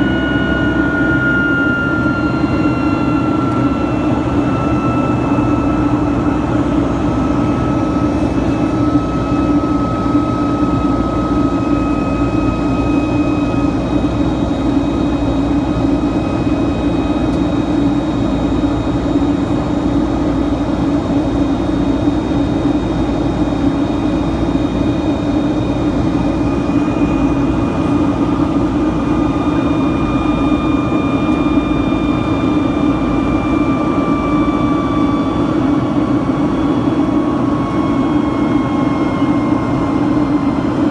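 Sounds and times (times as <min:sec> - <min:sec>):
high engine whine: 0:00.0 - 0:40.9
jet engine roar in cabin: 0:00.0 - 0:40.9.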